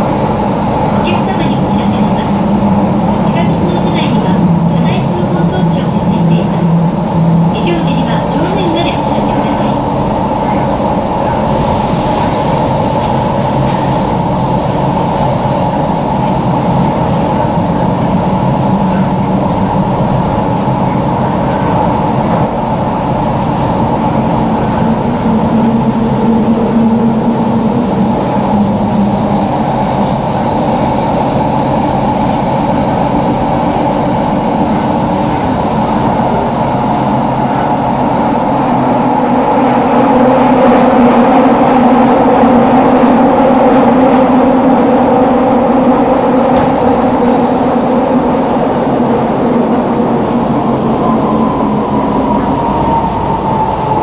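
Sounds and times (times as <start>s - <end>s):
train wheels rumbling in tunnel: 0.0s - 54.0s.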